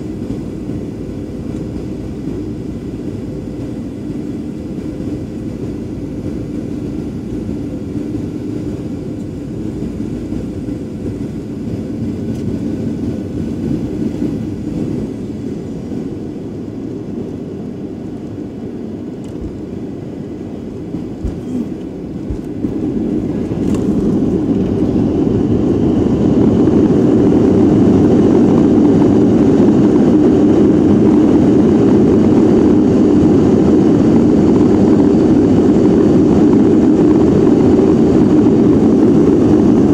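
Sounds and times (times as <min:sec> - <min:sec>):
jet engine and airflow in cabin: 0:00.0 - 0:39.9.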